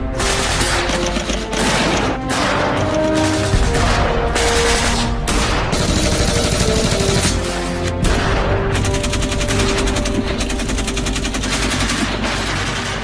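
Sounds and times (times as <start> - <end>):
background music with held notes: 0.0 - 13.0
rapid automatic gunfire: 0.2 - 13.0.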